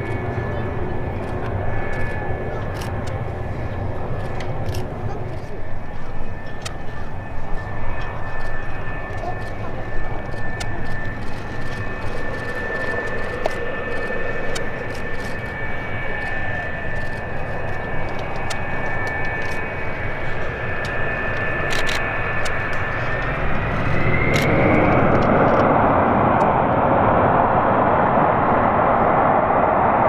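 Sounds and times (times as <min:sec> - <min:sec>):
jet engines whining: 0:00.0 - 0:30.0
jet roar: 0:00.0 - 0:30.0.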